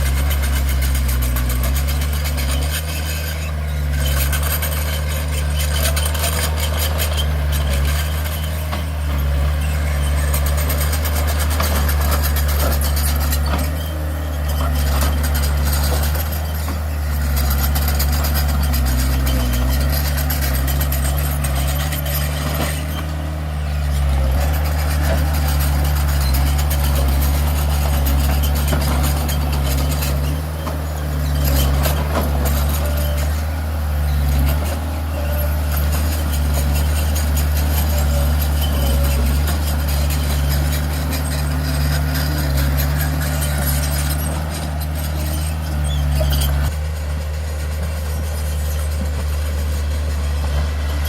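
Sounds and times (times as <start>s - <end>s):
heavy diesel engine humming: 0.0s - 51.0s
machinery rattle and clatter: 0.0s - 51.0s.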